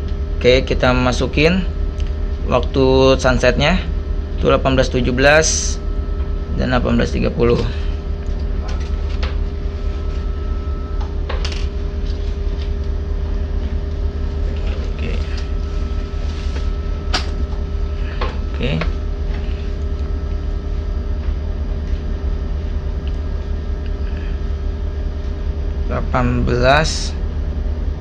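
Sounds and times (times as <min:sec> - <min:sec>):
low hum of ship machinery: 0:00.0 - 0:28.0
steady tone: 0:00.0 - 0:28.0.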